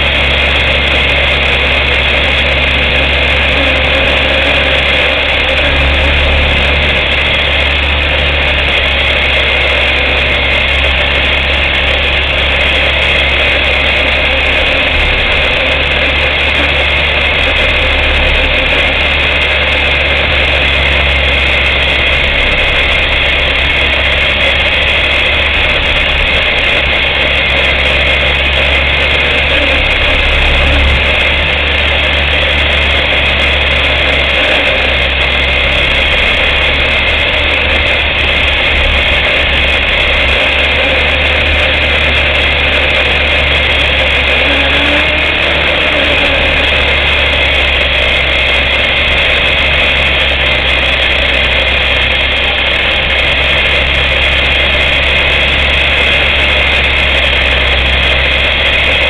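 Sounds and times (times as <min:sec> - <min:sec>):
model aircraft motors whining: 0:00.0 - 0:59.0.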